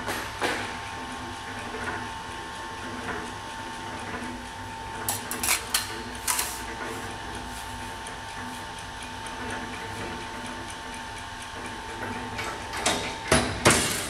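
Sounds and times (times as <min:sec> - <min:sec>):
machine electric hum: 0:00.0 - 0:14.0.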